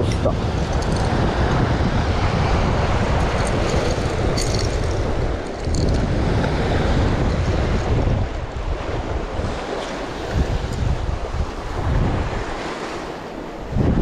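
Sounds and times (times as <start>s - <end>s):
waves breaking over rocks: 0.0s - 14.0s
wind buffeting microphone: 0.0s - 14.0s.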